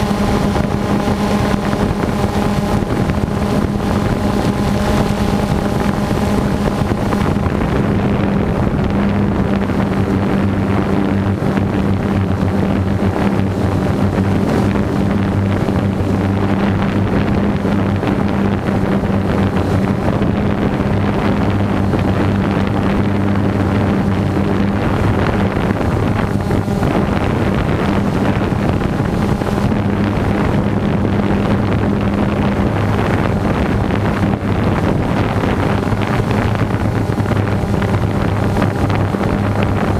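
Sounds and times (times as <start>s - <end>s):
drone motors humming: 0.0s - 39.9s
wind on microphone: 0.0s - 39.9s.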